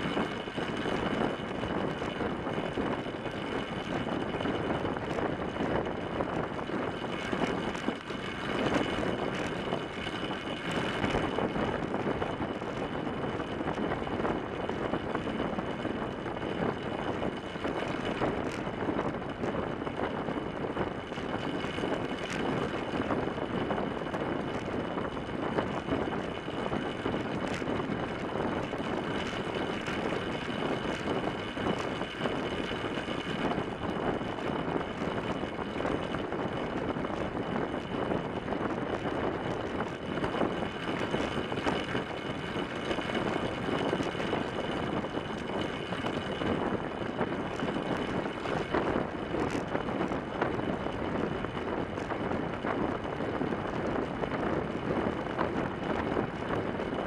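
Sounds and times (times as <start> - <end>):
bicycle tyres rolling on wooden boards: 0.0 - 57.0.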